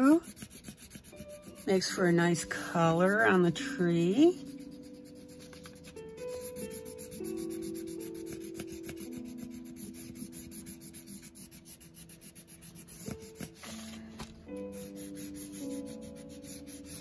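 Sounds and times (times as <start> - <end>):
pencil rubbing on paper: 0.0 - 14.0, 14.6 - 17.0
soft background music: 0.0 - 17.0.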